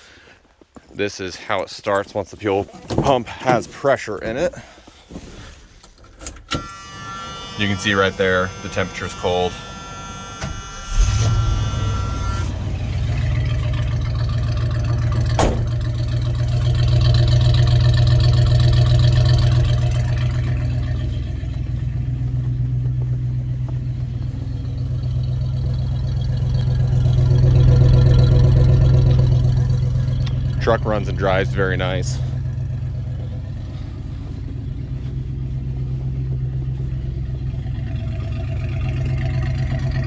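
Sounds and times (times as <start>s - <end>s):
truck engine idling: 3.1s - 40.0s.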